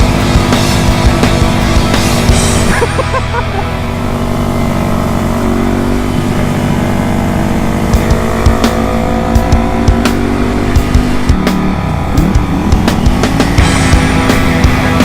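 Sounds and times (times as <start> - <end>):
motorcycle engine running: 0.0 - 15.0
sharp exhaust cracks: 0.0 - 15.0.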